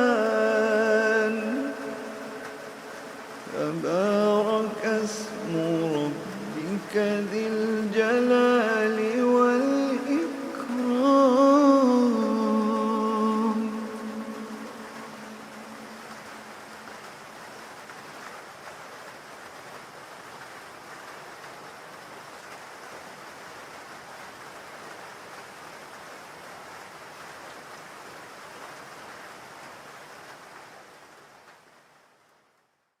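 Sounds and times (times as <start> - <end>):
steady falling rain: 0.0 - 33.0.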